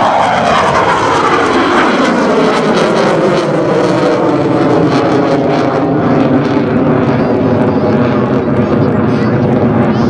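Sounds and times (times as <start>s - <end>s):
jet engine whine: 0.0s - 10.0s
jet engines roaring in afterburner: 0.0s - 10.0s.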